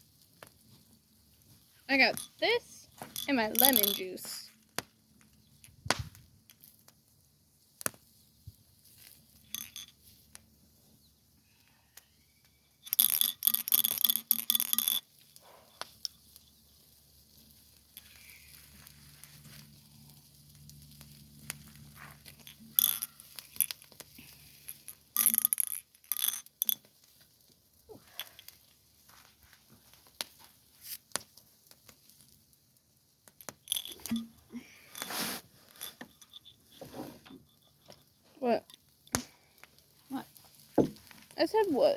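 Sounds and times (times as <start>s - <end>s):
small objects clicking and clinking: 1.9s - 5.8s, 8.9s - 10.4s, 11.9s - 32.4s, 33.2s - 41.4s.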